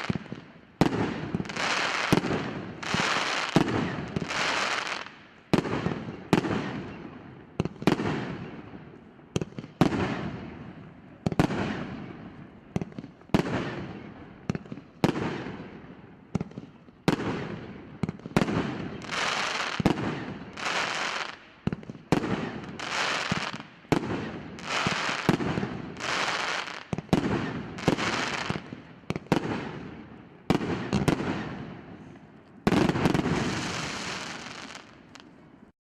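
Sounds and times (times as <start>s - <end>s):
firework bangs with crackling hiss: 0.0s - 8.6s, 9.4s - 10.5s, 11.3s - 12.2s, 12.8s - 15.8s, 16.4s - 31.9s, 32.6s - 35.2s.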